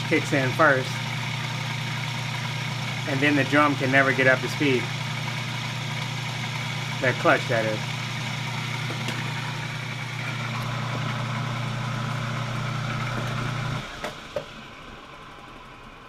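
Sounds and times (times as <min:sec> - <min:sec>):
electric motor humming: 0:00.0 - 0:15.7
machinery winding down: 0:00.0 - 0:16.0.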